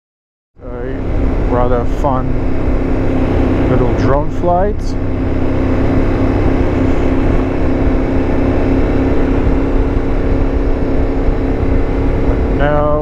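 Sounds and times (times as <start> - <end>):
motorcycle engine cruising: 0.6 - 13.0.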